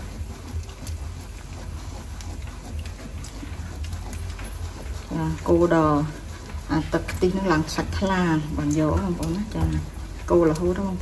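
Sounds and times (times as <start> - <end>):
wooden spatula stirring in a pot: 0.0 - 11.0.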